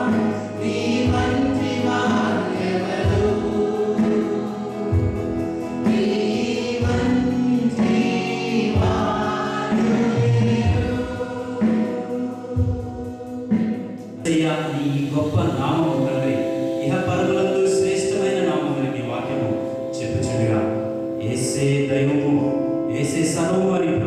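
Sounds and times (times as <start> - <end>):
choir and congregation singing: 0.0 - 24.0
instrumental accompaniment: 0.0 - 24.0.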